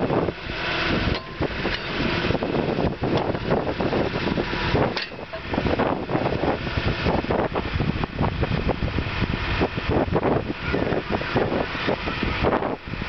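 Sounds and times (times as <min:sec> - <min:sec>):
skid steer engine running: 0:00.0 - 0:13.0
wind buffeting microphone: 0:00.0 - 0:13.0.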